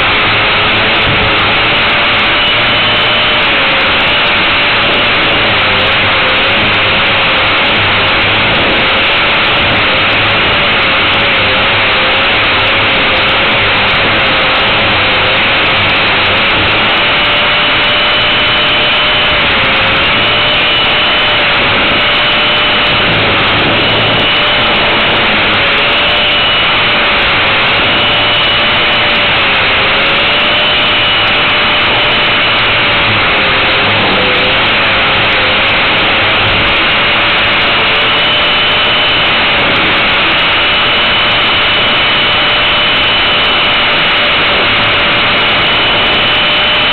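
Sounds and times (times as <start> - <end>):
electric motor whine: 0.0 - 46.9
loud rushing noise: 0.0 - 46.9.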